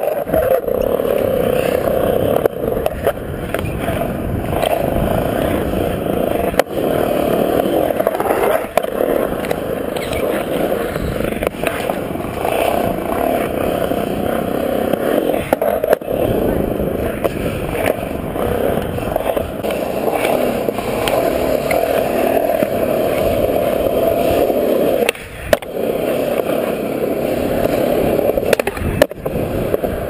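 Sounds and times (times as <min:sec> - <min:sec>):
skateboard clacks: 0:00.0 - 0:30.0
skateboard wheels rolling on concrete: 0:00.0 - 0:30.0.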